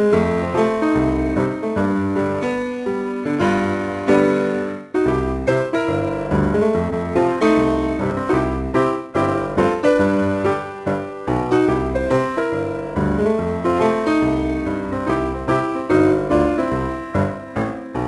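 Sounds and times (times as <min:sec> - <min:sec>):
bouncy piano tune: 0:00.0 - 0:18.0.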